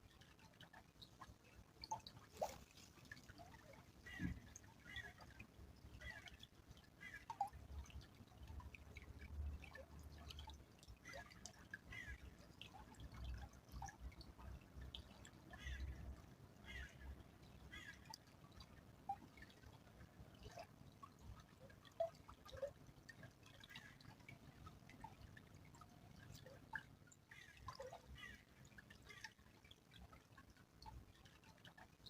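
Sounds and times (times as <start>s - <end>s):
small stream trickling: 0.0s - 32.0s
water drips and plinks: 0.0s - 32.0s.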